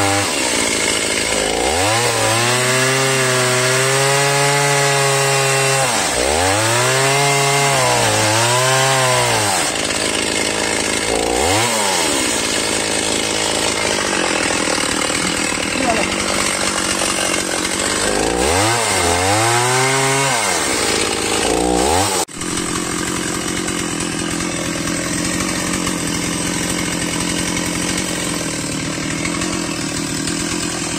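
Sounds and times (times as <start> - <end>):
chainsaw cutting tree trunk: 0.0 - 30.9.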